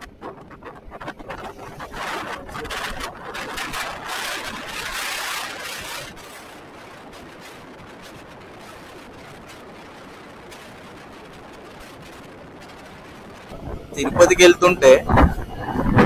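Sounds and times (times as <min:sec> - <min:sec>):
motorcycle road noise: 0:00.0 - 0:16.0
wind noise on microphone: 0:00.0 - 0:16.0.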